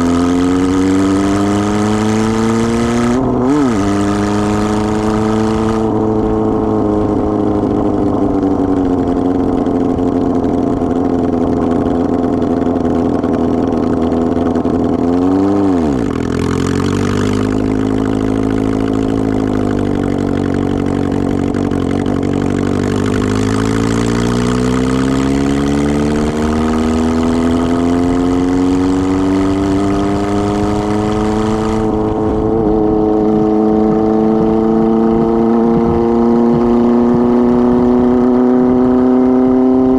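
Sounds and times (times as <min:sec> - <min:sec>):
motorcycle engine without muffler: 0:00.0 - 0:39.9.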